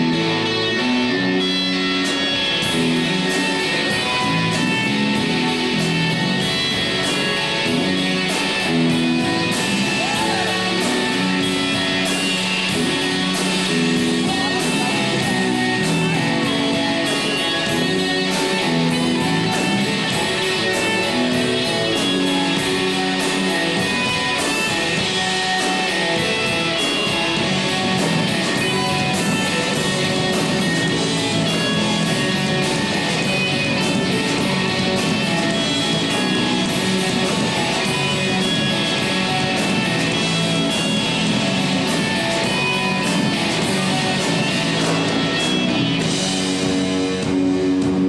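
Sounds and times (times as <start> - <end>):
rock band playing live: 0.0 - 48.0
steady drum beat: 0.0 - 48.0
sustained guitar chords: 0.0 - 48.0.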